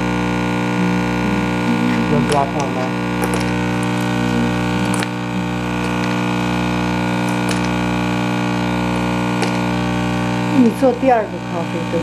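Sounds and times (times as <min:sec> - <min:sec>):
espresso machine pump buzzing: 0:00.0 - 0:12.0.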